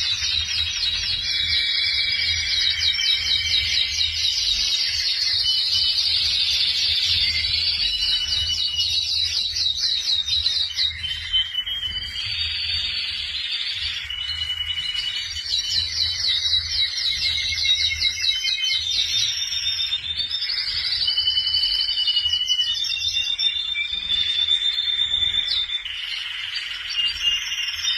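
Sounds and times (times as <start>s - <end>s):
canary singing trills and whistles: 0.0s - 27.9s.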